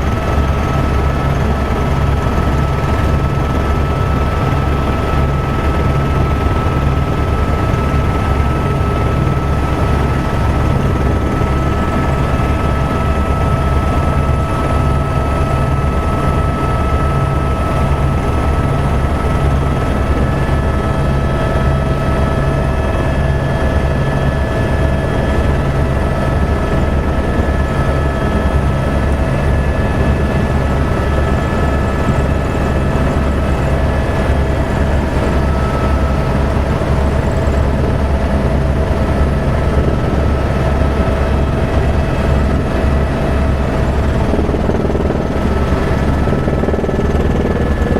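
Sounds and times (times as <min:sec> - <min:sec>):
helicopter rotor and engine thrum: 0:00.0 - 0:47.9.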